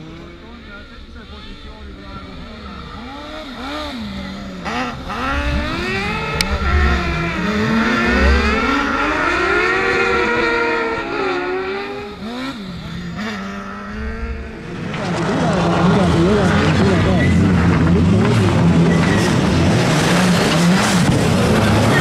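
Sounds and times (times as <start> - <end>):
racing buggy engines revving: 0.0 - 22.0.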